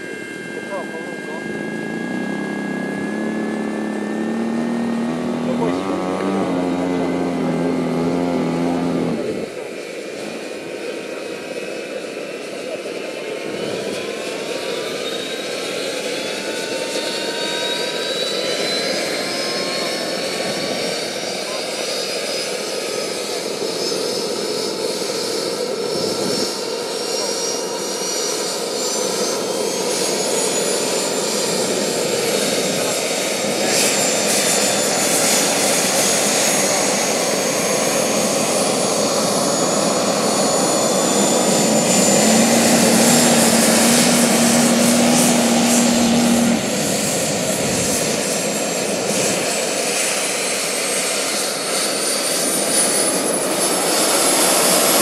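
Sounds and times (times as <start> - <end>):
turbine whine: 0.0 - 55.0.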